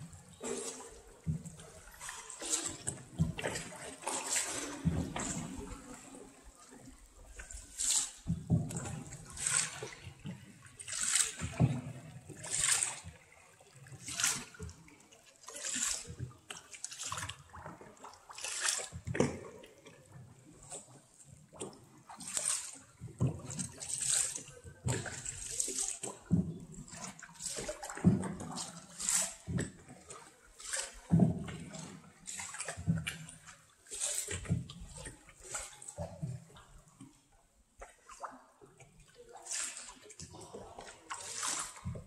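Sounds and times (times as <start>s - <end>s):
paddle splashing in water: 0.0s - 42.0s.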